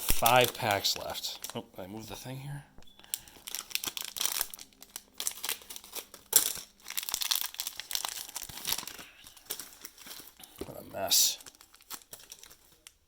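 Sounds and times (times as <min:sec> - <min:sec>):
plastic wrappers crinkling: 0:00.0 - 0:01.9, 0:03.0 - 0:13.0.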